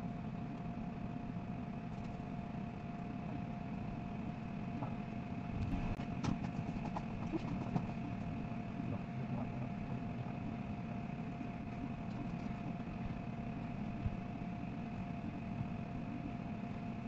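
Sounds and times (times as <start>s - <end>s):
electronics and fans humming: 0.0s - 17.0s
faint whine tones: 0.0s - 17.0s.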